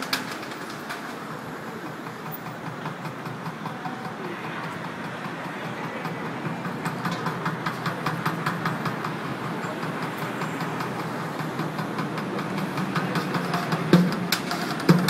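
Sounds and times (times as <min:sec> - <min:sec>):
city traffic noise: 0:00.0 - 0:15.0
drumming on plastic buckets: 0:00.0 - 0:15.0.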